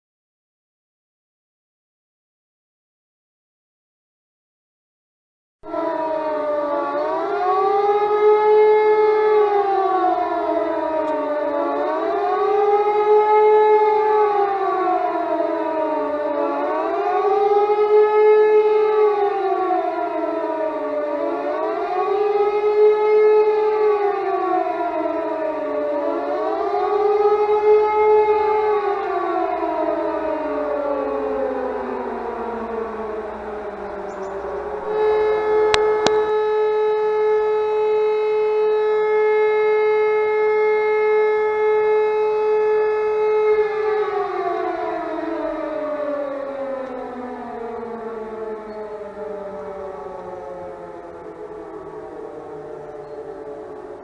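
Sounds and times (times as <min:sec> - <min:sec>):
warning siren wailing: 0:05.6 - 0:54.0.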